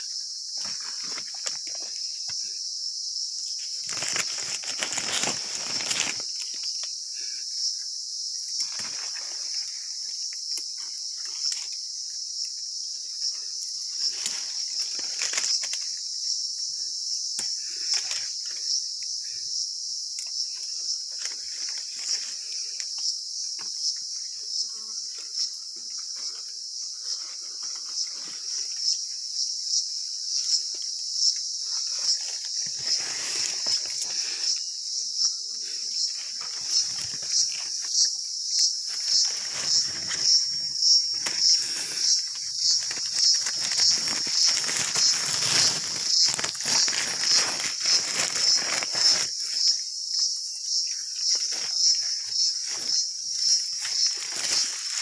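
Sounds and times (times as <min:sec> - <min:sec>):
leaves and stems rustling: 0:00.0 - 0:02.6, 0:03.4 - 0:07.4, 0:08.4 - 0:19.4, 0:20.0 - 0:55.0
insects trilling: 0:00.0 - 0:55.0.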